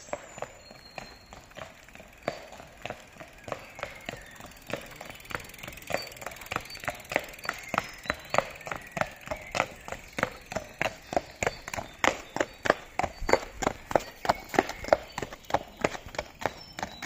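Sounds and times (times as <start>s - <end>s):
horse hooves clip-clopping on tarmac: 0.0s - 17.0s.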